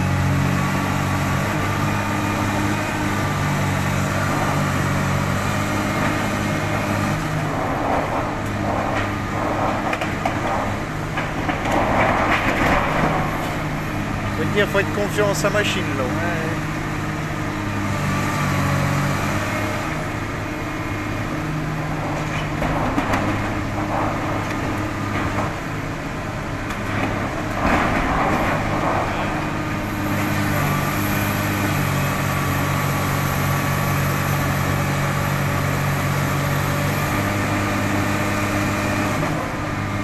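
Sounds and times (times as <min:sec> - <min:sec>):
excavator diesel engine running: 0:00.0 - 0:40.0
excavator jaw working steel: 0:00.0 - 0:40.0.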